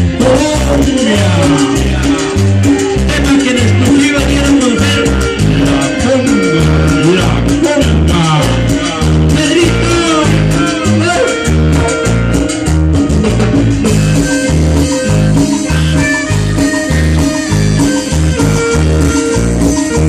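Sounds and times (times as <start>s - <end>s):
bass line pulsing: 0.0s - 20.0s
instrumental band music with guitar: 0.0s - 20.0s.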